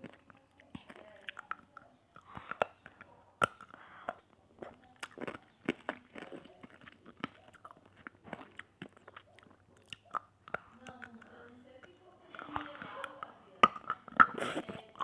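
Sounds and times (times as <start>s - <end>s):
chewing hard candy crunches: 0.0s - 15.0s
wet mouth clicks and smacks: 0.0s - 15.0s.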